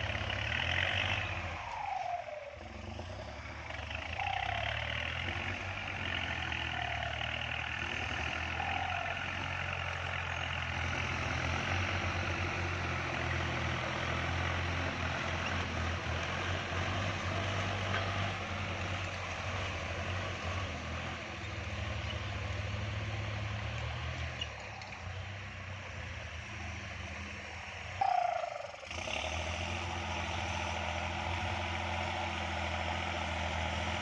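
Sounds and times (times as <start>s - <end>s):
tractor diesel engine droning: 0.0s - 34.0s.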